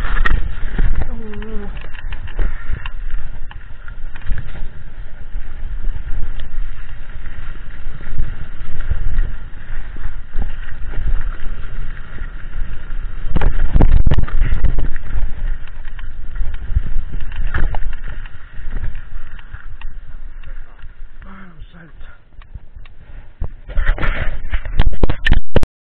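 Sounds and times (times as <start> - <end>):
bike rattling and knocking: 0.0 - 21.4
wind buffeting microphone: 0.0 - 25.6.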